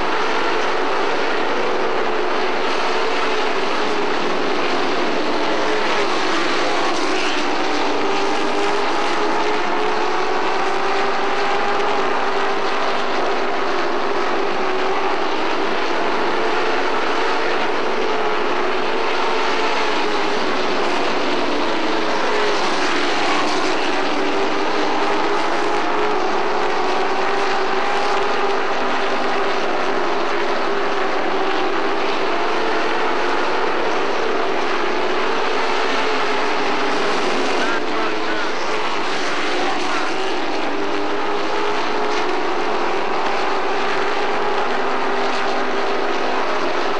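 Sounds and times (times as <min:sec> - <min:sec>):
race trucks engine drone: 0:00.0 - 0:46.9.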